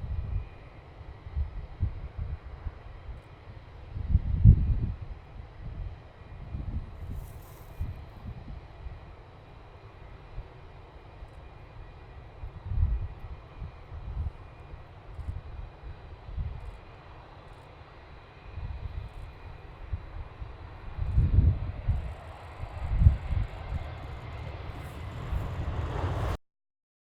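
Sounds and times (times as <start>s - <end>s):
jet engines rumbling low: 0.0s - 26.4s.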